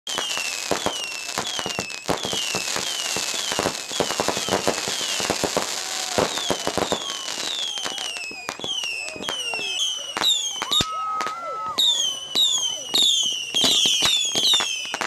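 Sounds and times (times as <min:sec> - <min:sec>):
falling firework whistles: 0:00.1 - 0:15.0
firecracker cracks and pops: 0:00.1 - 0:15.0
fireworks crackle: 0:00.1 - 0:15.0.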